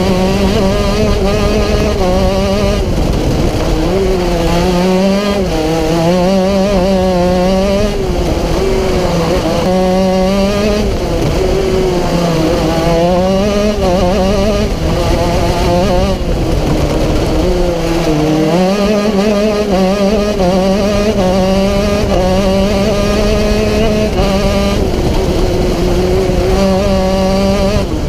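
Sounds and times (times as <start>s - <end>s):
racing kart engine revving: 0.0s - 28.0s.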